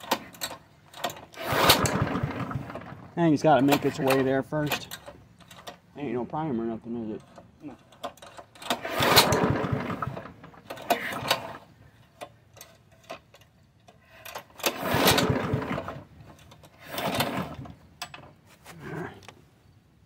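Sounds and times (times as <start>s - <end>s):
lawnmower recoil cord pulls: 0.0s - 5.9s, 7.0s - 18.5s.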